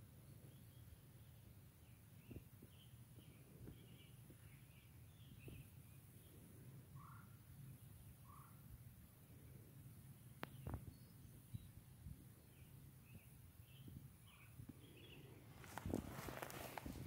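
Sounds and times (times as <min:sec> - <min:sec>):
faint bird chirps: 0:00.0 - 0:17.0
low bird calls: 0:00.4 - 0:17.0.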